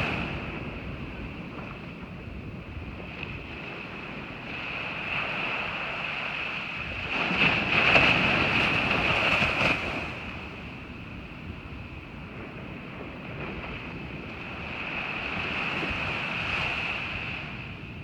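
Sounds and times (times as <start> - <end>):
waves breaking on a beach: 0.0 - 18.0
wind noise on microphone: 0.0 - 18.0.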